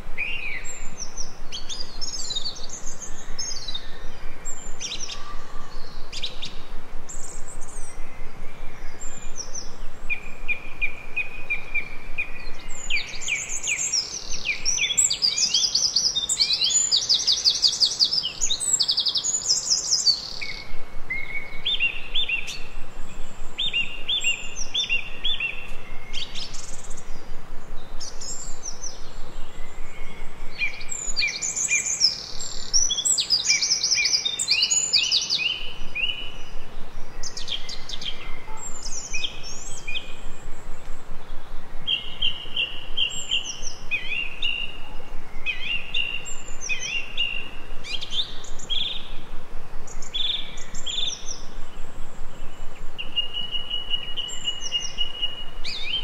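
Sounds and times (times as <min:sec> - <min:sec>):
background hiss: 0:00.0 - 0:56.0
songbirds chirping: 0:00.0 - 0:56.0.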